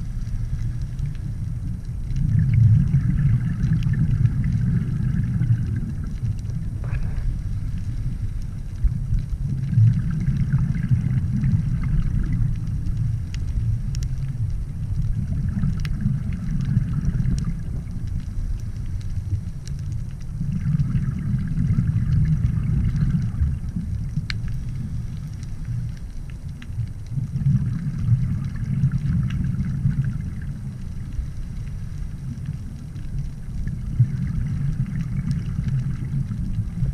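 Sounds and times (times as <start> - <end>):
faint ticks: 0.0 - 36.9
muffled underwater rumble: 0.0 - 36.9
soft hiss: 0.0 - 36.9.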